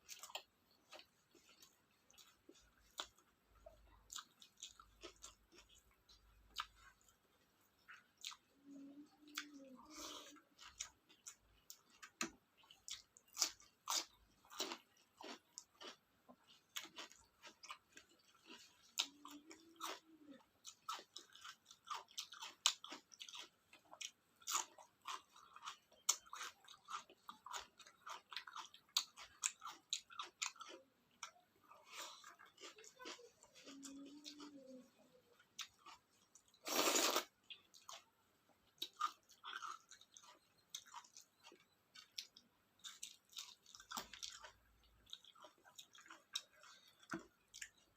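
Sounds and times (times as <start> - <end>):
crunching food: 0.0 - 7.2, 7.8 - 47.9
wet chewing: 0.0 - 47.9.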